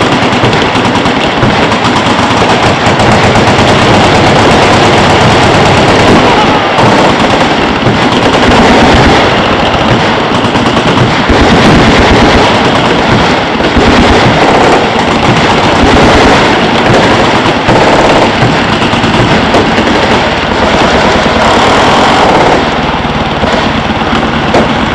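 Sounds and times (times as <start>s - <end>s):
machine guns firing: 0.0s - 24.9s.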